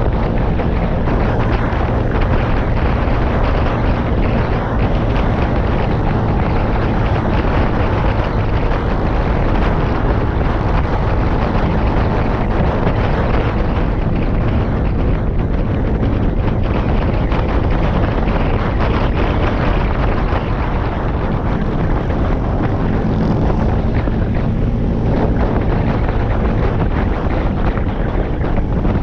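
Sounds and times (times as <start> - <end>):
scooter engine running: 0.0 - 29.0
wind rushing over microphone: 0.0 - 29.0.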